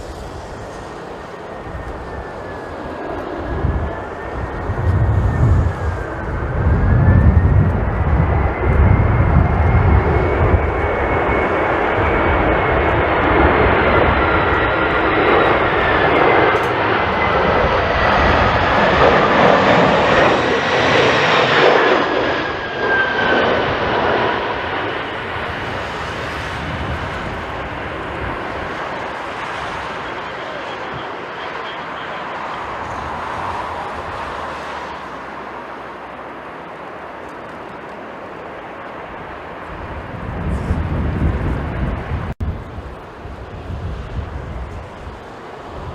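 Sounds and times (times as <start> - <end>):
jet airliner engines whining: 0.0 - 45.9.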